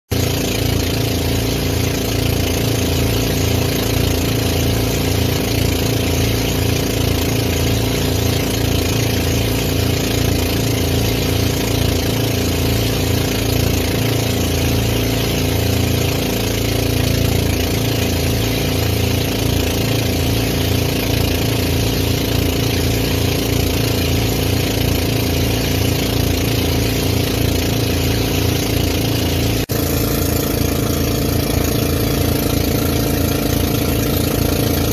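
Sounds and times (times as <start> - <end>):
boat engine running: 0.1 - 34.9.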